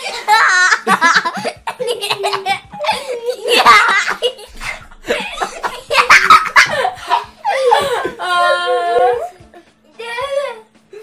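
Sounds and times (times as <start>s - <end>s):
man and boy laughing: 0.0s - 9.3s.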